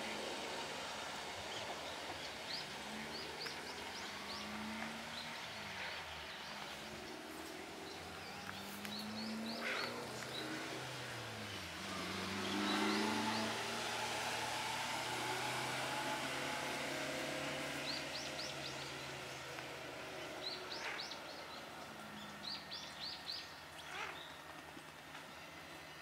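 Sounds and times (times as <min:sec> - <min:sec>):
outdoor background hum: 0:00.0 - 0:26.0
vehicle passing: 0:00.0 - 0:26.0.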